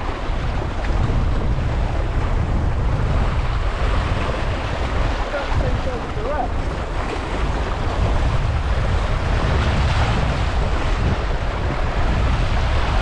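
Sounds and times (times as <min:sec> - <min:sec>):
surf breaking on rocks: 0:00.0 - 0:13.0
wind buffeting microphone: 0:00.0 - 0:13.0.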